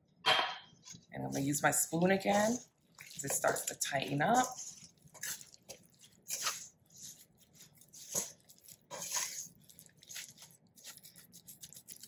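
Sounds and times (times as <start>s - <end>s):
spoon stirring dough in metal bowl: 0.8s - 12.0s.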